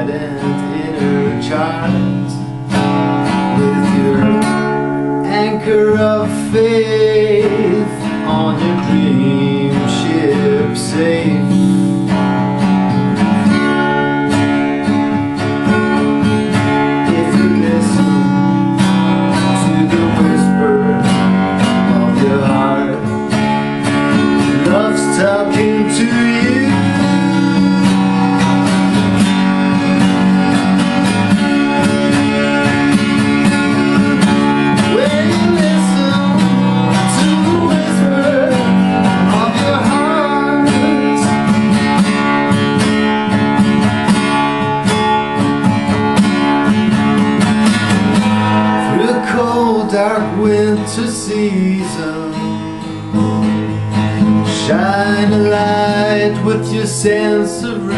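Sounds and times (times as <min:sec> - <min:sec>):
acoustic guitar strumming: 0:00.0 - 0:57.9.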